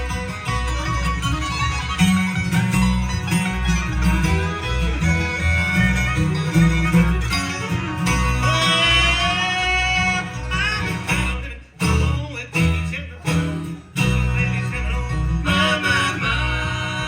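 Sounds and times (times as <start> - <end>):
bluegrass music with acoustic guitar: 0.0 - 17.0.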